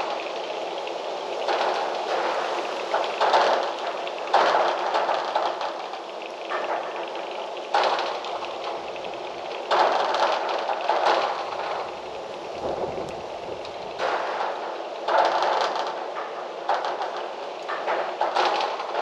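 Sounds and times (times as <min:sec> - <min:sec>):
gusty wind rustling trees: 0:00.0 - 0:19.0.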